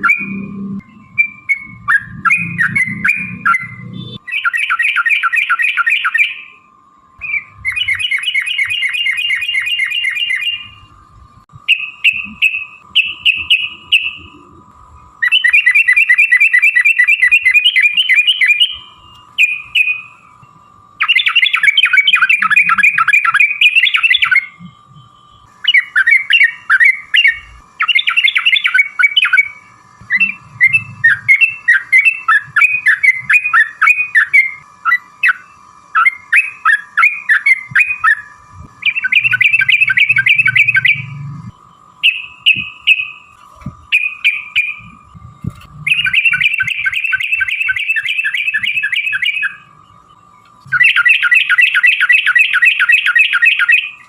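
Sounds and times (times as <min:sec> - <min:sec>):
faint steady tone: 0:00.0 - 0:54.0
bird chattering song: 0:01.2 - 0:06.6, 0:07.2 - 0:10.8, 0:11.7 - 0:14.6, 0:15.2 - 0:20.2, 0:21.0 - 0:41.2, 0:42.0 - 0:43.2, 0:43.9 - 0:45.0, 0:45.8 - 0:54.0.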